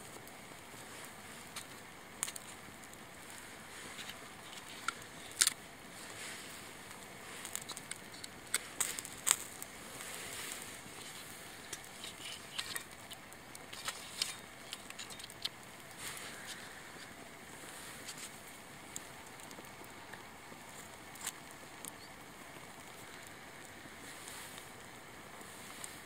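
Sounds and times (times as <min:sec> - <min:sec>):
faint steady hiss: 0:00.0 - 0:26.0
wood fire crackling and popping: 0:00.0 - 0:26.0.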